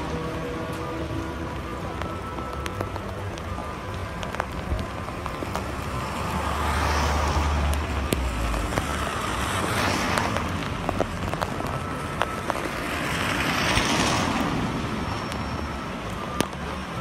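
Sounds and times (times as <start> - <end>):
raindrop ticks: 0.0 - 17.0.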